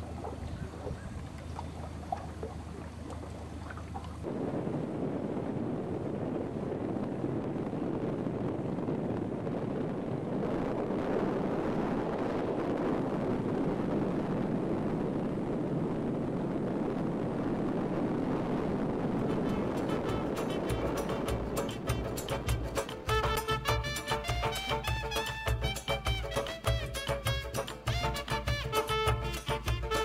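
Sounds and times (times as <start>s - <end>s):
water rushing along hull: 0.0s - 30.0s
wind buffeting microphone: 0.0s - 30.0s.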